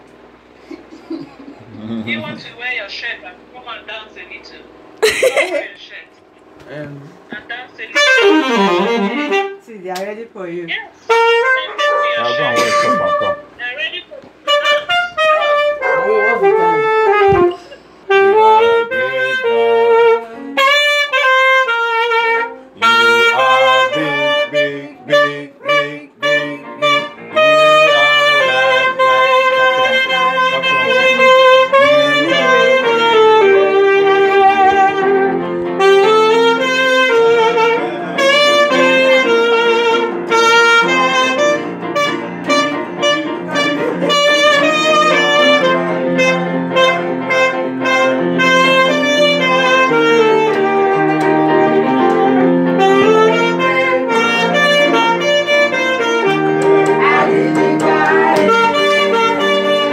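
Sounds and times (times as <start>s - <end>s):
saxophone melody: 1.6s - 2.5s, 7.5s - 9.7s, 11.0s - 59.9s.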